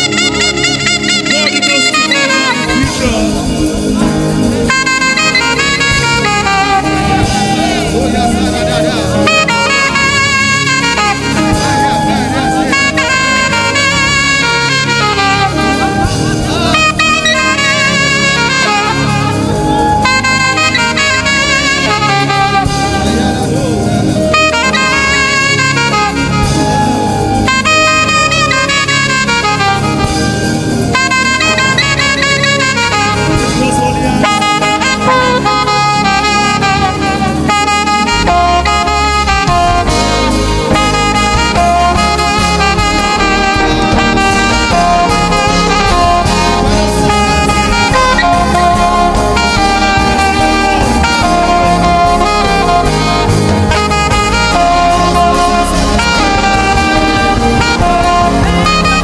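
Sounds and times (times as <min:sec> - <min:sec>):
gospel band with keyboard: 0:00.0 - 0:59.0
saxophone melody: 0:00.0 - 0:59.0.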